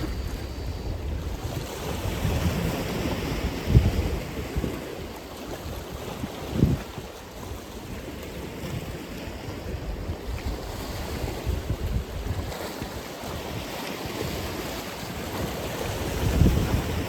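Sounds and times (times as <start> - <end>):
ocean surf washing ashore: 0.0 - 17.0
wind on microphone: 0.0 - 17.0.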